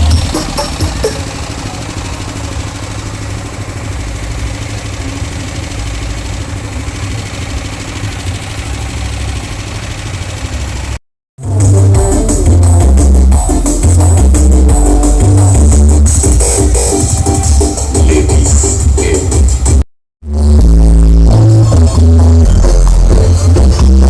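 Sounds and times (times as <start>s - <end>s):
engine idling: 0.0s - 19.8s.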